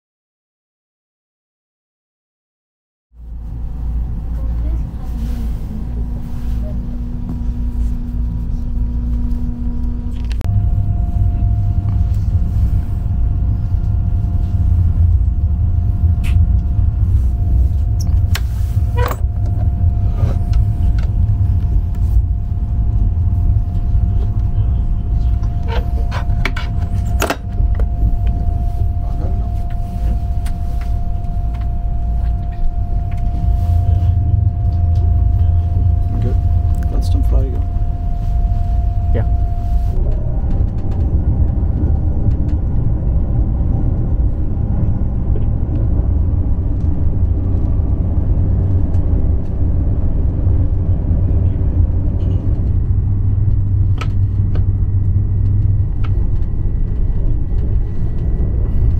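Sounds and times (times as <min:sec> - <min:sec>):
steady whine: 0:03.2 - 0:58.9
train cabin rumble: 0:03.2 - 0:58.9.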